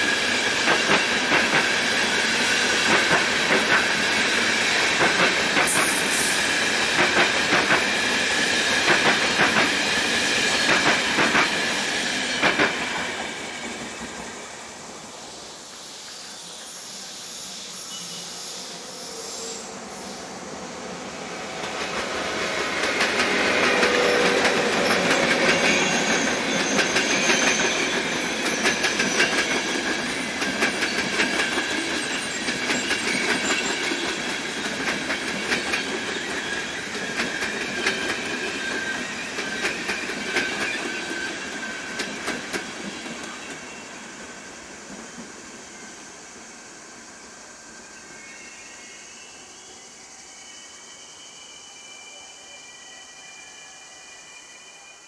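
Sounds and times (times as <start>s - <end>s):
train passing by: 0.0s - 55.0s.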